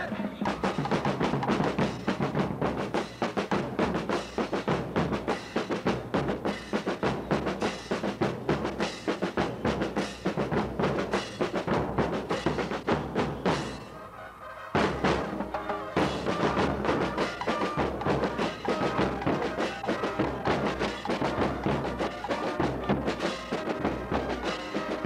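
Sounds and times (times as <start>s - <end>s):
bass drums: 0.0s - 13.8s, 14.8s - 25.0s
snare drums: 0.0s - 14.0s, 14.7s - 25.0s.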